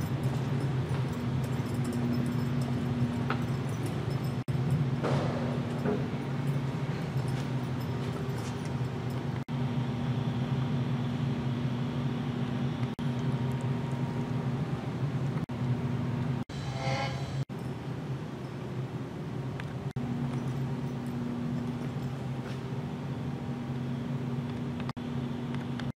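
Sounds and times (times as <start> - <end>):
ventilation hum: 0.0 - 25.9.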